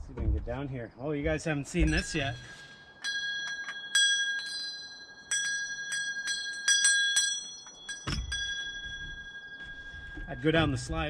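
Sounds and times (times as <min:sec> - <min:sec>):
small brass bell ringing: 0:01.9 - 0:11.0.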